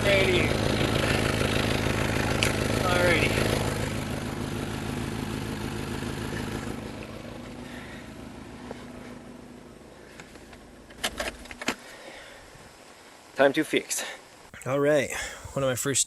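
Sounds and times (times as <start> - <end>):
car engine idling with leaking exhaust: 0.0 - 13.3.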